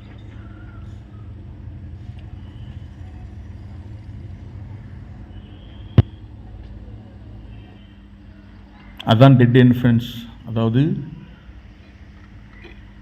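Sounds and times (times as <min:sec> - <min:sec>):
low rumble of outdoor noise: 0:00.0 - 0:13.0.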